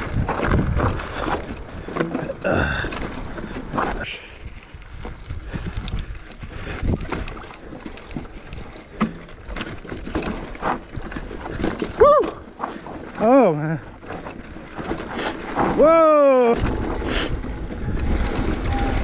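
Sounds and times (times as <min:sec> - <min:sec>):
wind buffeting microphone: 0:00.0 - 0:13.2, 0:13.8 - 0:19.0
bike clattering over bumps: 0:00.0 - 0:19.0
tyres rolling over stones: 0:00.0 - 0:19.0.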